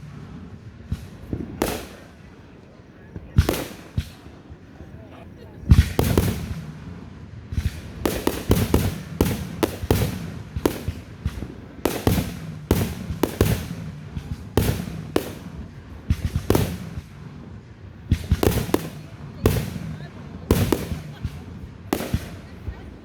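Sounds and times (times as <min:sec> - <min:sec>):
fireworks bangs with crackling: 0:00.0 - 0:23.0.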